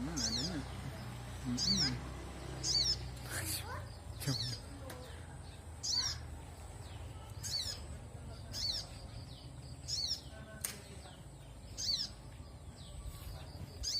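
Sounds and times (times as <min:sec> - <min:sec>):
songbird chirping: 0:00.0 - 0:13.9.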